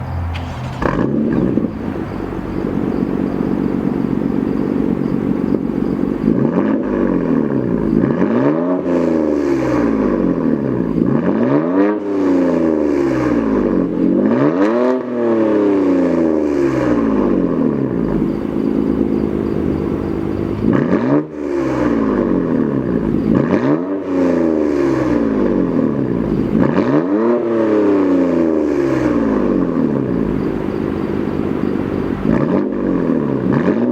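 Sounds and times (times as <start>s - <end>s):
car engine idling: 0.0s - 33.9s
car engine revving: 0.0s - 33.9s.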